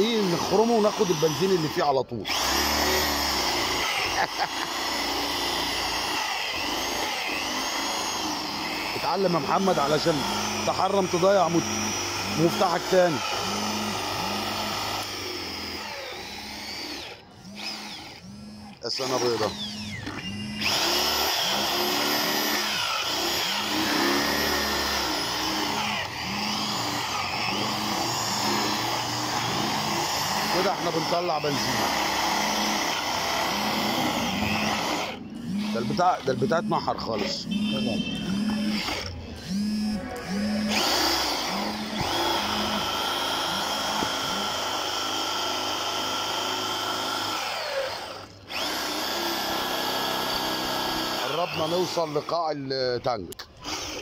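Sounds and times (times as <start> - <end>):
electric drill grinding into metal: 0.0 - 54.0.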